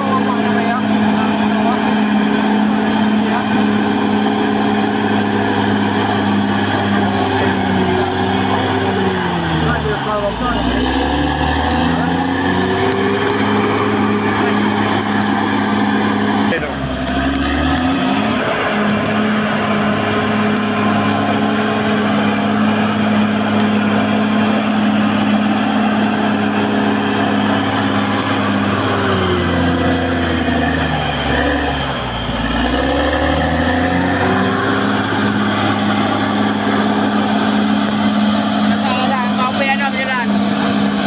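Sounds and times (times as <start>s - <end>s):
bulldozer diesel engine: 0.0s - 41.0s.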